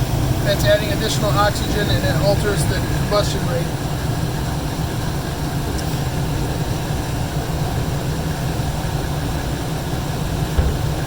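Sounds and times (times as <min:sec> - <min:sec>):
gas furnace rumbling: 0:00.0 - 0:11.0.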